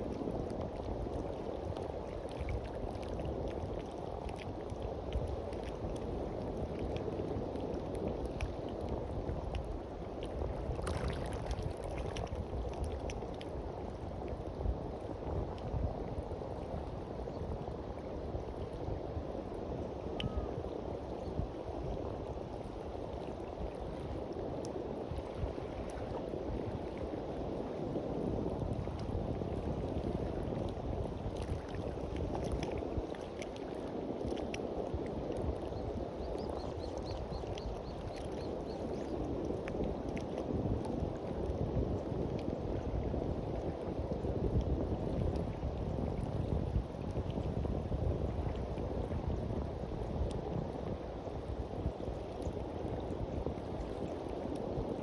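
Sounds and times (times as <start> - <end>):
sea waves washing onto beach: 0.0 - 55.0
wind gusts on microphone: 0.0 - 55.0.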